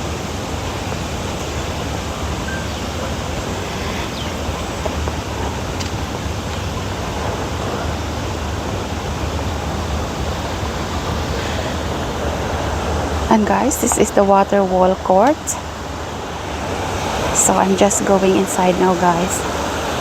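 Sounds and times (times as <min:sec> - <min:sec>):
cascading water rushing: 0:00.0 - 0:14.2, 0:15.5 - 0:20.0.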